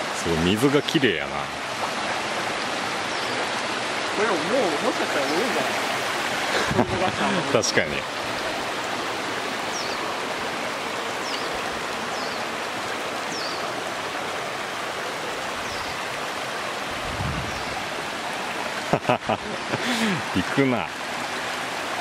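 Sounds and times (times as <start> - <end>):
stream rushing over stones: 0.0 - 22.0.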